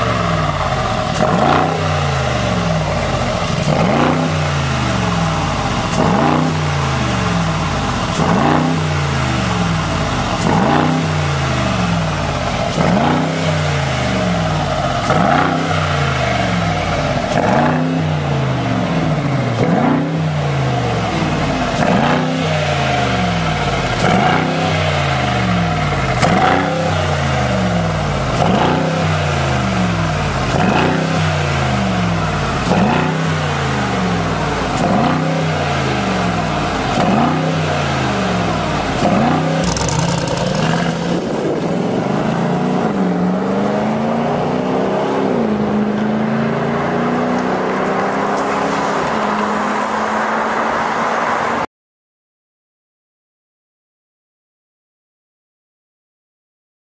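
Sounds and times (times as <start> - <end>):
car engine revving: 0.0 - 51.6.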